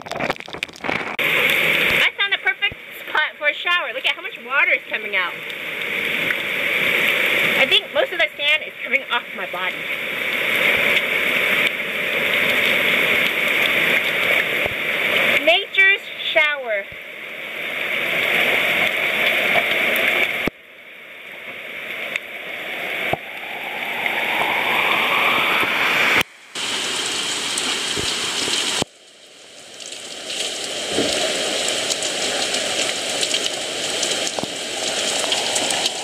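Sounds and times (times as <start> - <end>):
rain falling close: 0.0 - 36.0.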